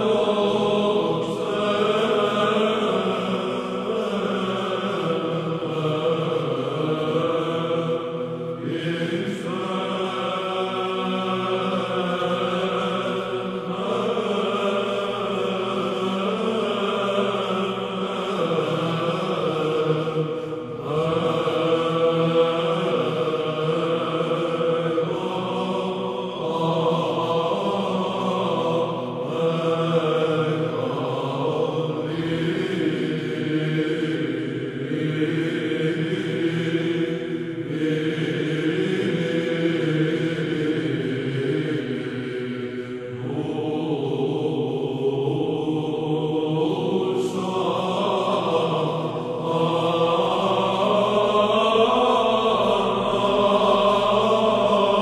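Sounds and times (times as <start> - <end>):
low vocal drone: 0.0 - 55.0
men's choir chanting: 0.0 - 55.0.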